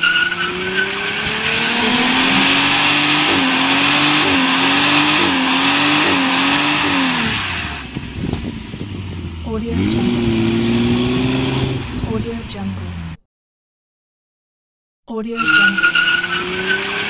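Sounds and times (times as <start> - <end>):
tires squealing: 0.0 - 12.1, 15.4 - 17.0
car engine revving: 0.0 - 13.2, 15.4 - 17.0.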